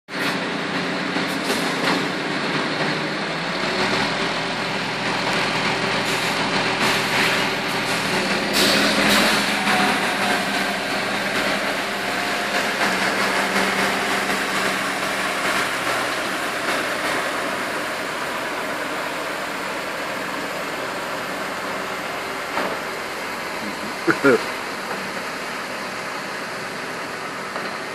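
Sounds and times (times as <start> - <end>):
engine and pump drone: 0.1 - 27.9.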